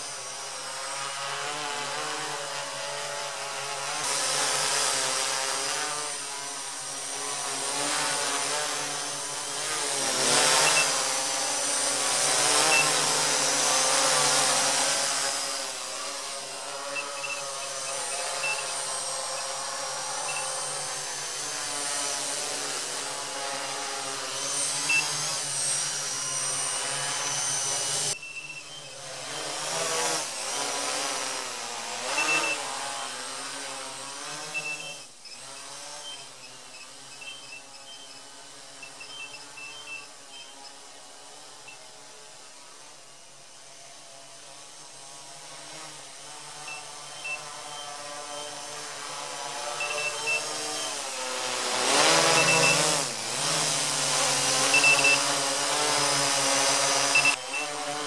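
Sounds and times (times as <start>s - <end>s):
quadcopter propellers buzzing: 0.0s - 58.0s.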